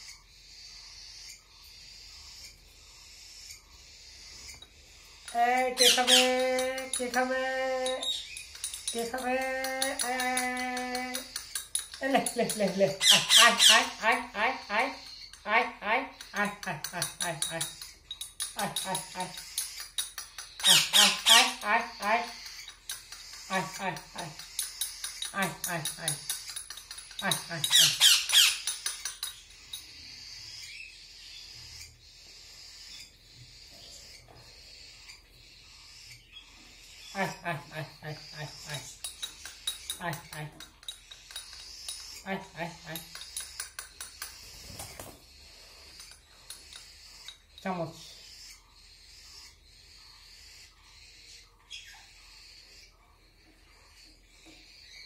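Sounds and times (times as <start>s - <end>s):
baby birds buzzing begging calls: 0.0s - 55.0s.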